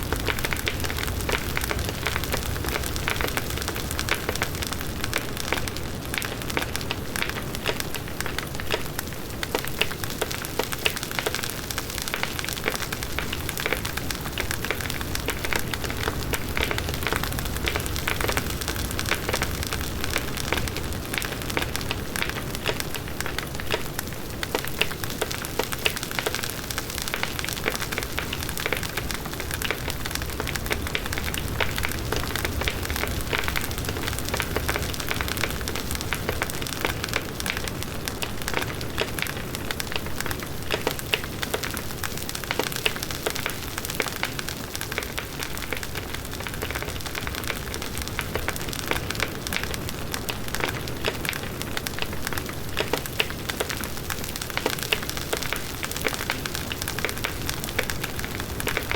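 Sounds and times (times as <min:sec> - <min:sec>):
burning wood crackling and popping: 0:00.0 - 0:58.9.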